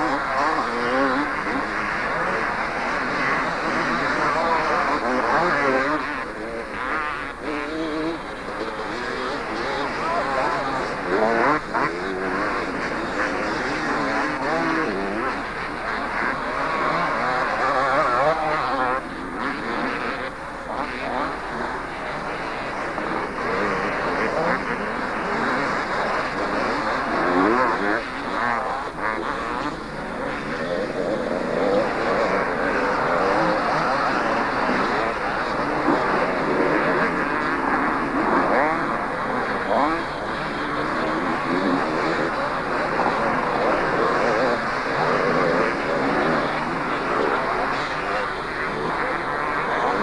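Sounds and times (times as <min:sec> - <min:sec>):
motocross motorcycles revving: 0:00.0 - 0:50.0.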